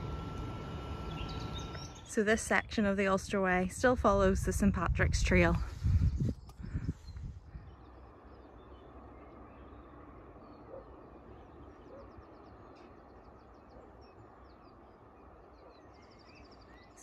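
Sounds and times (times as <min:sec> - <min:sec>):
distant birds chirping: 0:00.0 - 0:02.9, 0:05.9 - 0:17.0.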